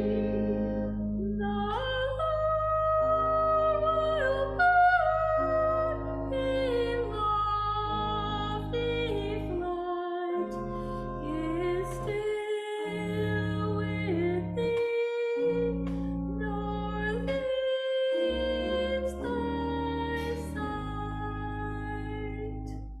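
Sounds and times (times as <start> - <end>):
instrumental accompaniment: 0.0 - 23.0.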